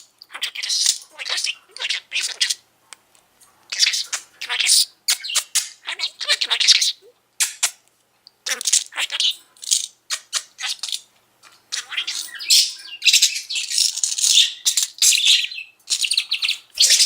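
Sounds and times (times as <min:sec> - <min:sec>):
budgerigar chattering: 0:00.3 - 0:02.6, 0:03.7 - 0:07.8, 0:08.5 - 0:17.0.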